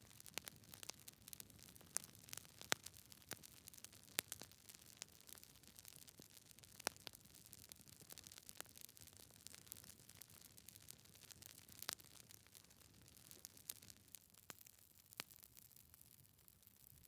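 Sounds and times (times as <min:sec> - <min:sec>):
logs crackling in a fireplace: 0:00.0 - 0:17.0.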